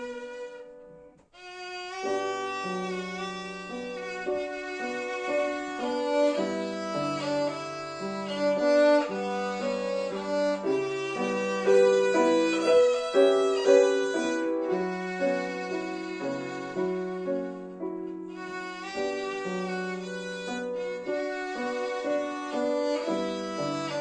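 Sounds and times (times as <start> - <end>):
piano accompaniment: 0.0 - 24.0
violin melody: 0.0 - 24.0.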